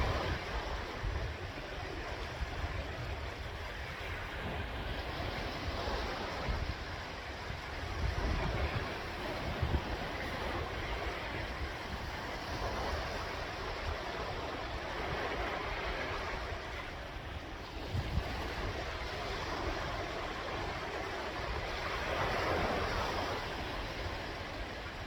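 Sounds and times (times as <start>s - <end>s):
sea waves breaking on shore: 0.0s - 25.0s.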